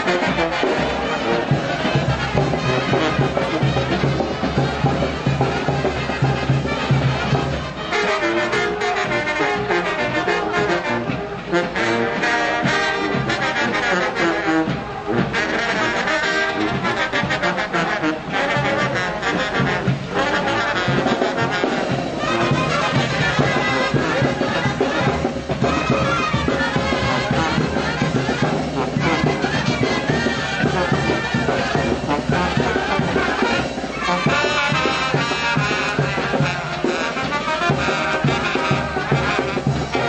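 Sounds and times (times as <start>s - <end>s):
marching brass band playing: 0.0s - 40.0s.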